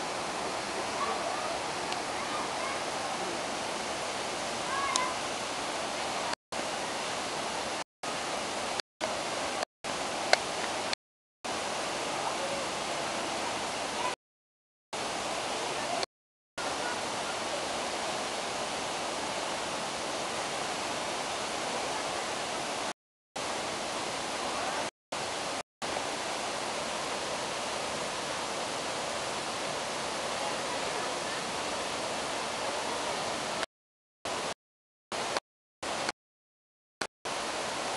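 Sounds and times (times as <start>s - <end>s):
waterfall rushing: 0.0s - 14.2s, 15.0s - 33.7s, 37.3s - 37.9s.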